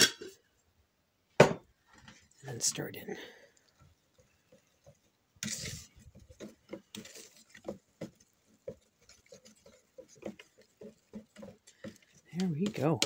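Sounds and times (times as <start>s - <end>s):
wooden spoon stirring thick sauce: 1.7s - 13.0s.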